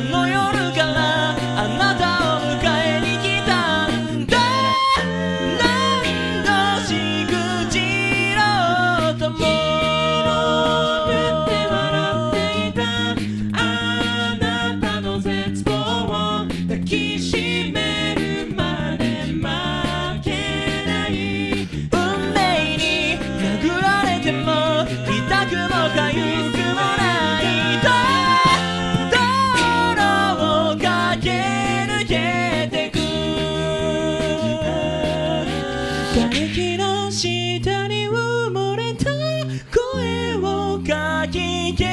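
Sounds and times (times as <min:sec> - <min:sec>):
beatboxed percussion: 0:00.0 - 0:38.2
a cappella group singing: 0:00.0 - 0:41.9
sung bass notes: 0:00.0 - 0:41.9.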